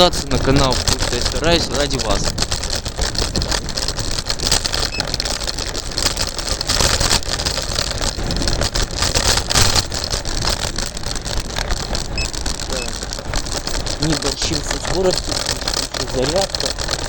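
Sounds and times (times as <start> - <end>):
electric scooter riding rush: 0.0 - 17.0
rattling and knocking: 0.0 - 17.0.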